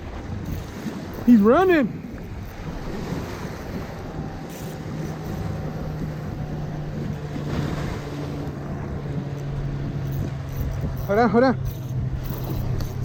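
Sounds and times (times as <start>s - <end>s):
steady low hum: 0.0s - 13.0s
water washing: 0.0s - 13.0s
wind buffeting microphone: 0.0s - 13.0s.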